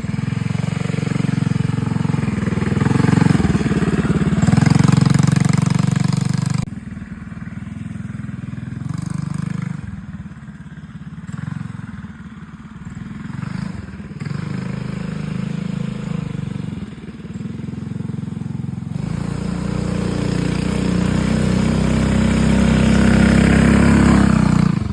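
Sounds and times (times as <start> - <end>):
minibike engine revving: 0.0 - 24.9.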